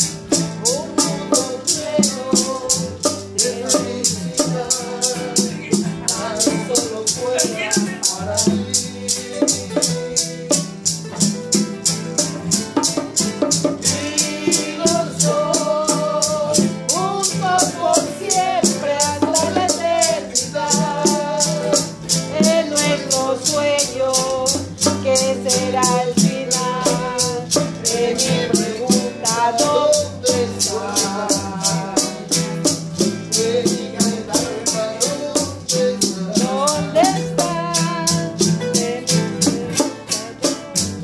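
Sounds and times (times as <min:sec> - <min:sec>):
man singing: 0:00.0 - 0:11.3, 0:13.6 - 0:41.0
acoustic guitars strumming: 0:00.0 - 0:41.0
maracas shaking: 0:00.0 - 0:41.0.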